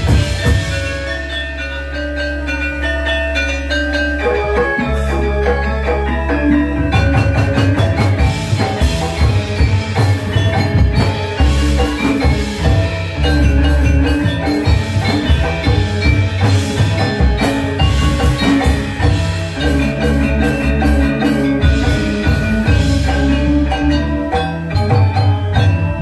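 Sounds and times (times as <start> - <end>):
gamelan ensemble playing: 0.0 - 26.0.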